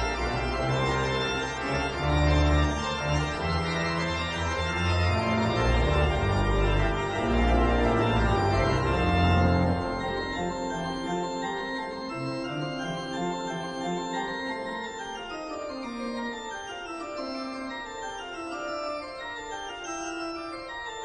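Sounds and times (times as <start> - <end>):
organ-like chords: 0.0 - 20.8.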